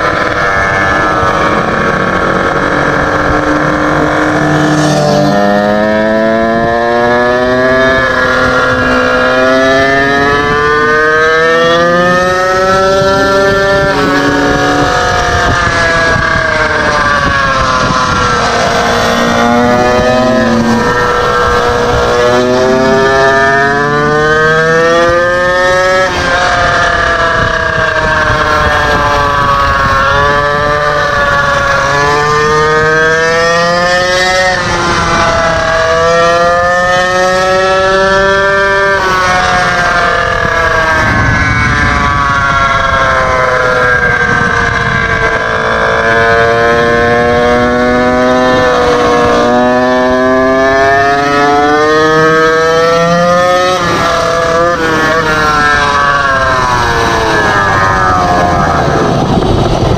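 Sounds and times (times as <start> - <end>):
small two-stroke engine revving: 0.0 - 59.9.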